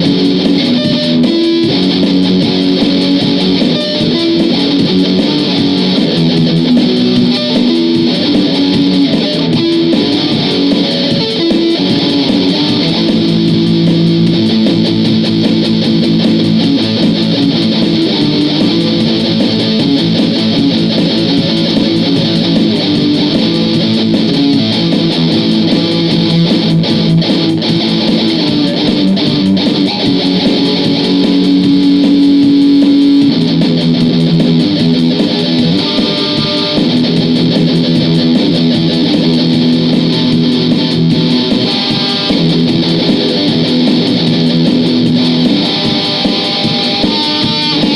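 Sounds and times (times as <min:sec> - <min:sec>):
guitar riffs: 0:00.0 - 0:47.9.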